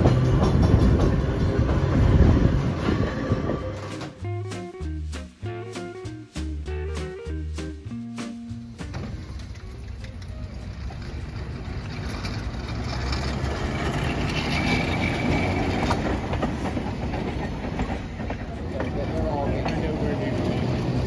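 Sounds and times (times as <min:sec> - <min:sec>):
streetcar wheels rumbling on rails: 0:00.0 - 0:21.0.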